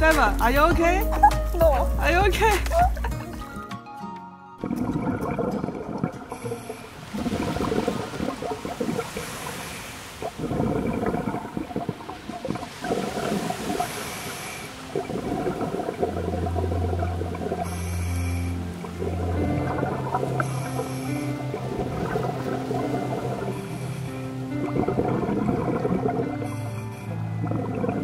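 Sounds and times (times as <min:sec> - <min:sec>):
gurgling bubbles from regulator: 0:04.6 - 0:28.0.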